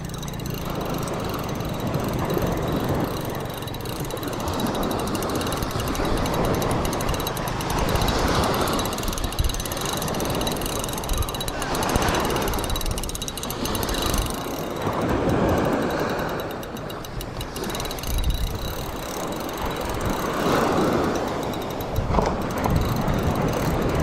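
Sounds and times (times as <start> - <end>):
fishing reel whirring and ticking: 0.0 - 24.0.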